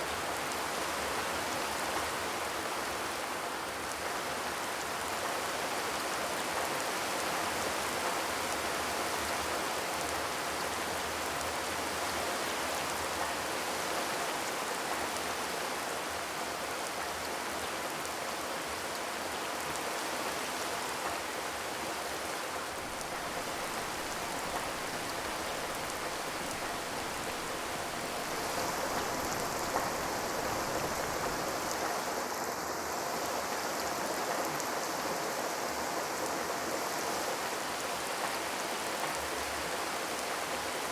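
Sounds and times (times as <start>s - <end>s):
rain on a metal roof: 0.0s - 40.9s.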